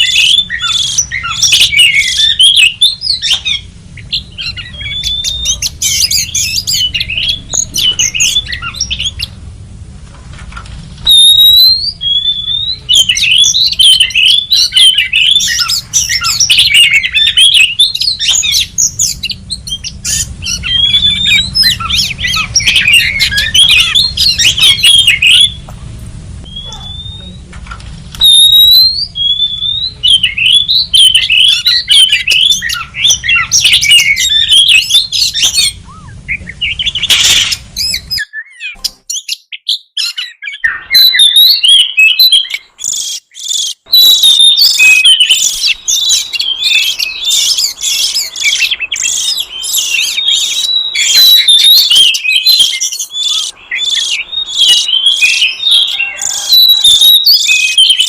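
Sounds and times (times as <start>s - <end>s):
bird chirps and whistles: 0.0s - 9.4s, 11.0s - 25.7s, 26.4s - 27.4s, 28.2s - 58.0s.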